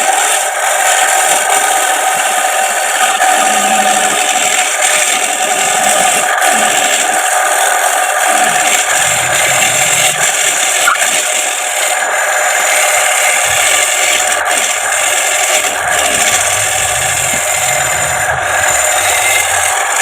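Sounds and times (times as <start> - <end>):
wood lathe rasping: 0.0 - 20.0.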